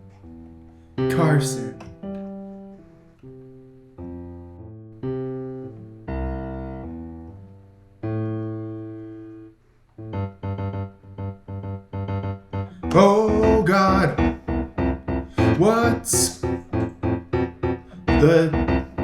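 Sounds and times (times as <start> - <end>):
keyboard chords ringing: 0.0 - 19.0.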